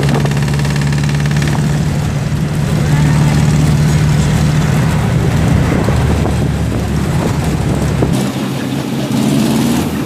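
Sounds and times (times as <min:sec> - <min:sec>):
rumbling wind: 0:00.0 - 0:10.0
vehicle engine drone: 0:00.0 - 0:10.0.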